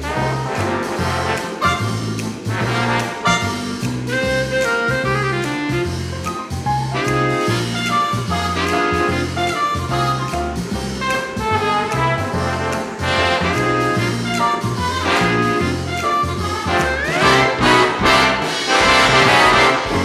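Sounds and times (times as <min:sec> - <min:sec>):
jazzy brass music: 0:00.0 - 0:20.0.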